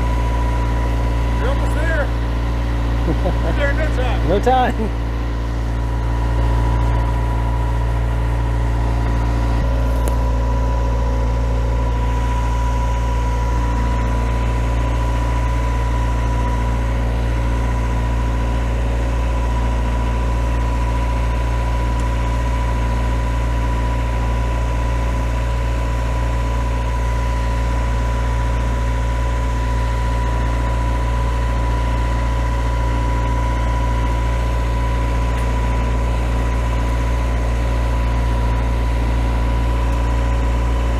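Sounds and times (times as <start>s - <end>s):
marine diesel engine running: 0.0s - 40.9s.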